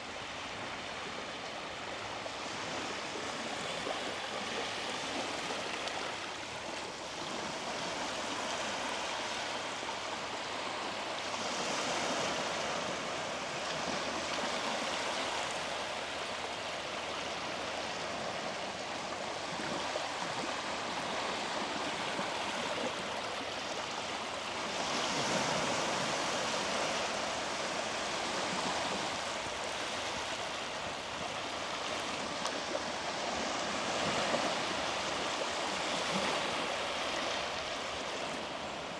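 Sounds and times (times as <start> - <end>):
waves washing onto beach: 0.0 - 38.9.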